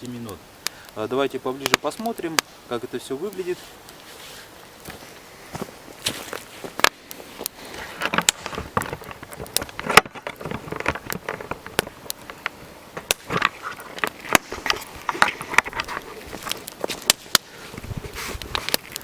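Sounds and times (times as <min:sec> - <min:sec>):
wood campfire crackling: 0:00.0 - 0:19.0
crunching footsteps: 0:01.7 - 0:19.0.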